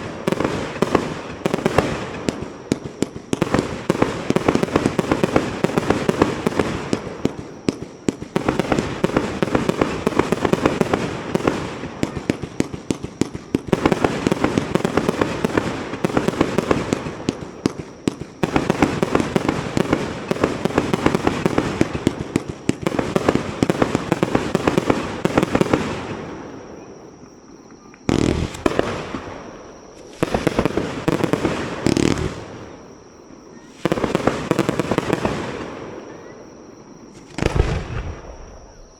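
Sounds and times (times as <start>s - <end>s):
fireworks crackling and popping: 0.0s - 26.5s, 27.3s - 36.0s, 37.0s - 38.9s
firework booms: 0.0s - 38.9s.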